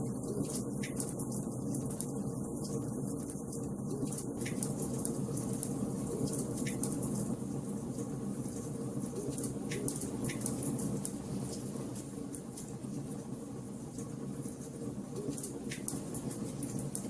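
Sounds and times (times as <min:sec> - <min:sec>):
fire crackling and popping: 0:00.1 - 0:17.0.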